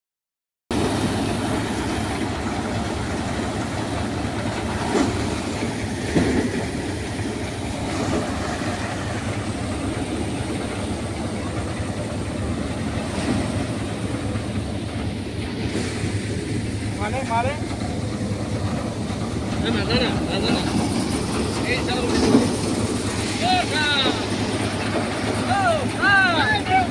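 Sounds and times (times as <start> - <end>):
thresher running: 0.7 - 26.9
tractor engine drone: 0.7 - 26.9.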